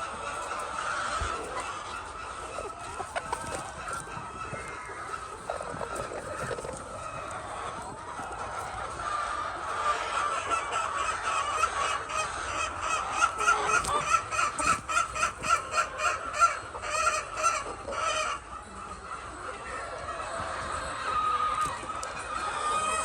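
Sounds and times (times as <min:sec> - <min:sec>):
hens clucking and squawking: 0:00.0 - 0:23.0.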